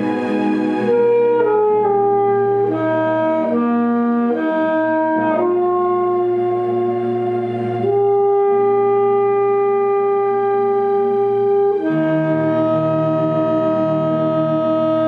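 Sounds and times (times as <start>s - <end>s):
alto saxophone slow melody: 0.0s - 15.0s.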